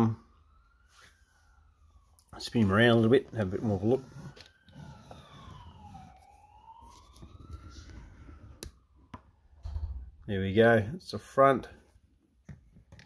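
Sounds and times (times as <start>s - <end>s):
faint siren wailing: 0.0s - 12.4s.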